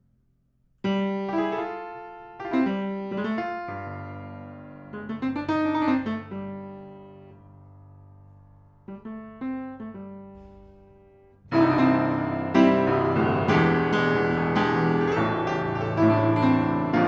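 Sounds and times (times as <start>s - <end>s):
upright piano chords: 0.8s - 17.0s.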